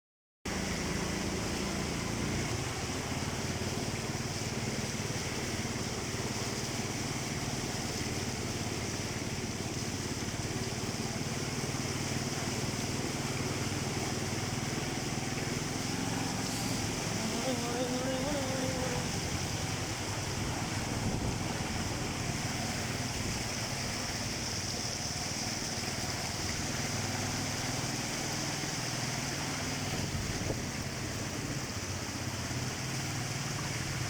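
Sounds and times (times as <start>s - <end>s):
low mechanical hum: 0.5s - 34.0s
steady rainfall: 0.5s - 34.0s.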